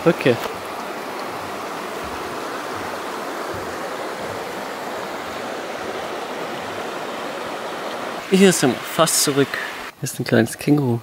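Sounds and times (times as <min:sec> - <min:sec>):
creek flowing over stones: 0:00.0 - 0:09.9.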